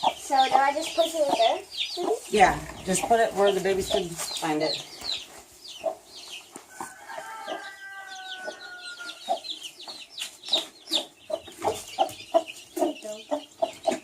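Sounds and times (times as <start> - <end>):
baby chicks peeping: 0.0 - 14.0
hen clucking: 0.0 - 14.0.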